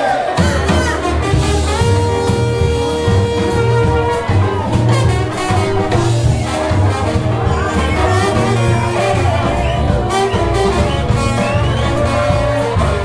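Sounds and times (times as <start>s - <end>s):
brass band playing jazz: 0.0s - 13.0s.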